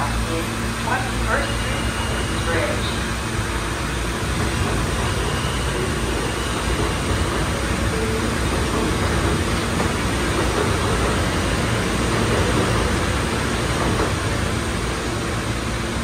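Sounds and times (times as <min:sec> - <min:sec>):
subway train hiss and rumble: 0:00.0 - 0:16.0.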